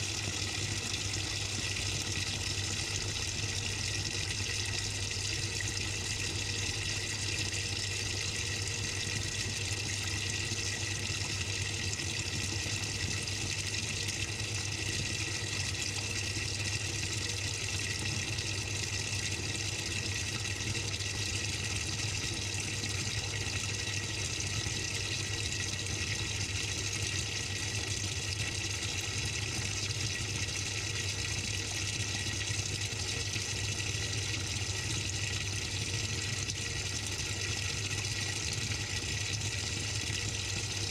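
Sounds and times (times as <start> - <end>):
low machine hum: 0.0 - 40.9
water running in washing machine drum: 0.0 - 40.9.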